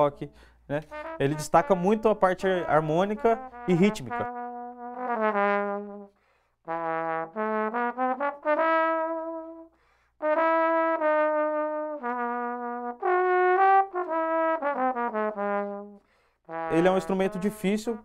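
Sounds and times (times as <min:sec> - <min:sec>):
trombone melody: 0:00.7 - 0:18.0.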